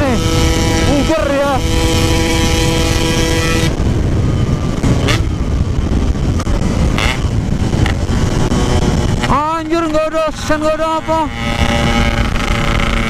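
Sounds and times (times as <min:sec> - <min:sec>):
road noise: 0:00.0 - 0:13.0
two-stroke engine high note: 0:00.0 - 0:13.0
wind rumble: 0:00.0 - 0:13.0.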